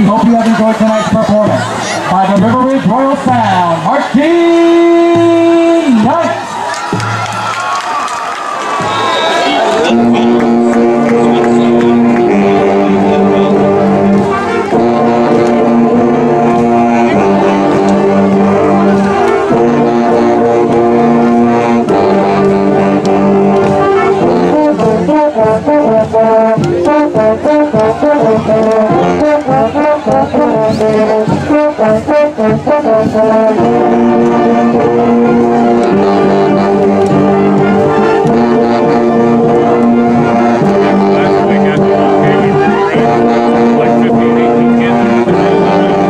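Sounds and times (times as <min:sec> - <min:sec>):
brass ensemble music: 0:00.0 - 0:46.0.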